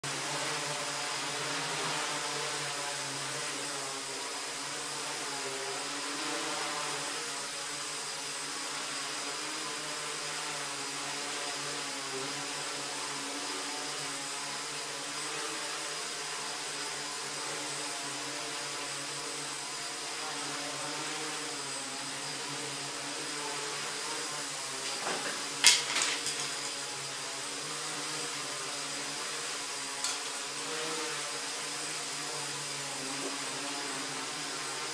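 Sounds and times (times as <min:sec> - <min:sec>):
drone motors whirring: 0:00.2 - 0:34.9.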